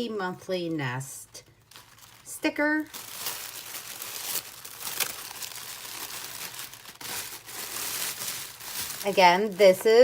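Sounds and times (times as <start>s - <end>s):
tissue paper crinkling: 1.6s - 10.0s.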